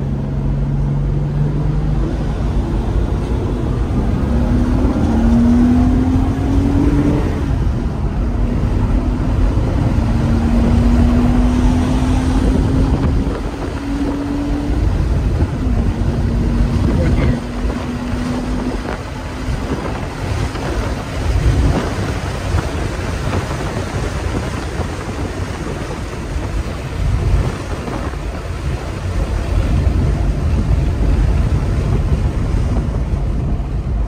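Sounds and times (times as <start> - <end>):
car engine tone: 0.0 - 34.0
wind and road noise in car: 0.0 - 34.0.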